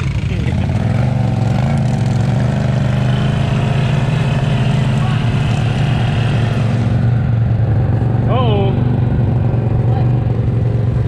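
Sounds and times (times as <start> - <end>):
atv engine droning: 0.0 - 11.0.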